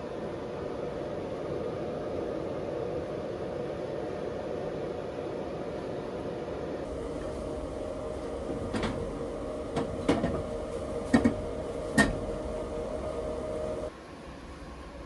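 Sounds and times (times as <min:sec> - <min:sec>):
inverter hum: 0:00.0 - 0:15.0.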